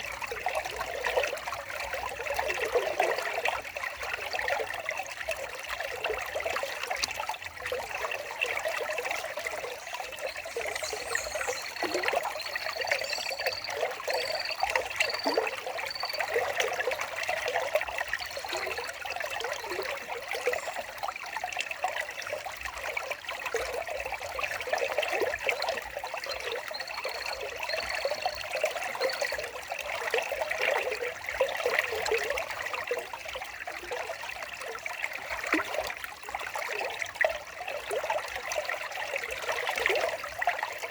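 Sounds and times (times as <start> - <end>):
water trickling over stones: 0.0 - 40.9.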